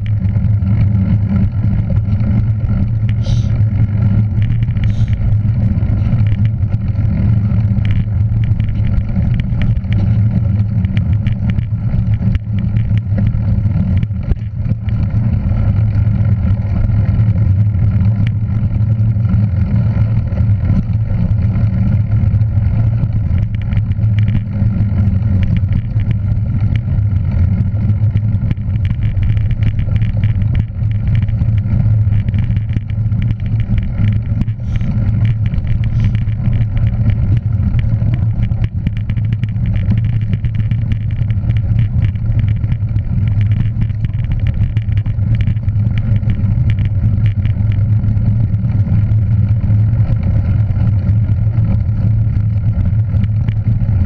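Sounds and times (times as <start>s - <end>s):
road noise: 0.0s - 54.0s
vehicle engine droning: 0.0s - 54.0s.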